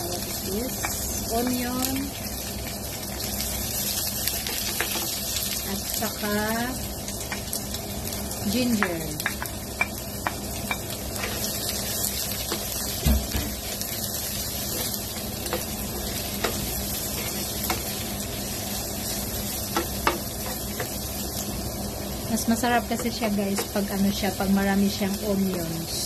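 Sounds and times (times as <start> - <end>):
vegetables sizzling in hot oil: 0.0 - 26.0.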